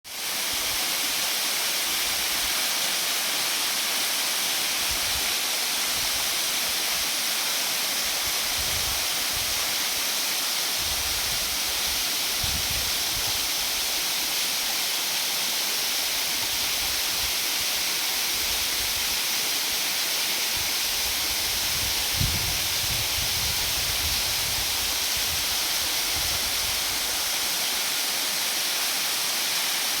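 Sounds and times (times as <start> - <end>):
waterfall rushing hiss: 0.1 - 30.0.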